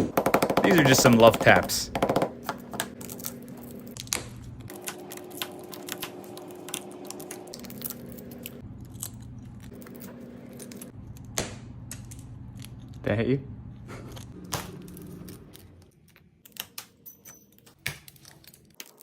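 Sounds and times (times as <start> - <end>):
low steady hum: 0.0 - 18.7.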